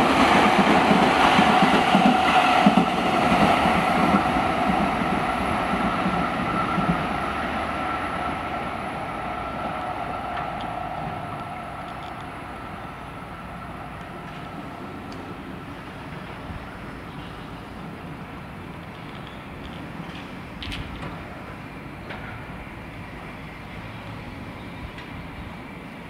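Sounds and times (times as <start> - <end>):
clickety-clack of train wheels: 0.0 - 8.4, 9.6 - 12.5, 14.0 - 22.6, 24.0 - 25.6.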